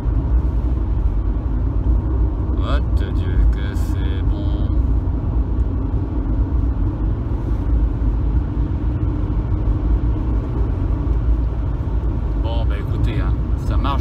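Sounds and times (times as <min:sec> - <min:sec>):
engine and road rumble in cabin: 0:00.0 - 0:14.0.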